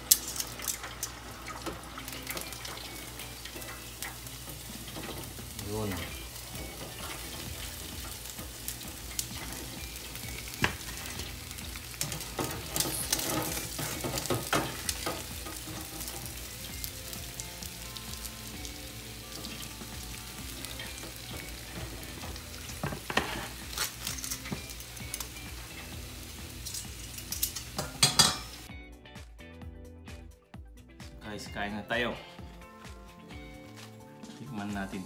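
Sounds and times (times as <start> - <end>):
hot oil sizzling in deep fryer: 0.0 - 28.7
metal tongs and fry basket clinking: 0.0 - 28.7.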